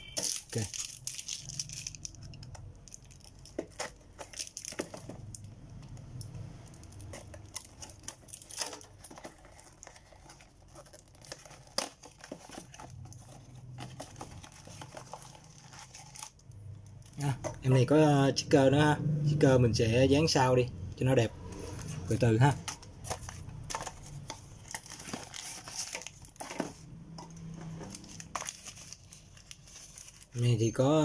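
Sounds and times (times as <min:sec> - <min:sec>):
packaging rustling and crinkling: 0:00.0 - 0:17.7, 0:21.7 - 0:31.0.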